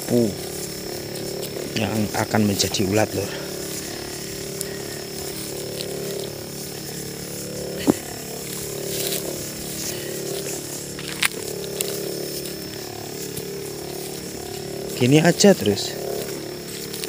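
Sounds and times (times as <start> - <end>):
lance spraying: 0.0 - 17.0
motorized sprayer humming: 0.0 - 17.0.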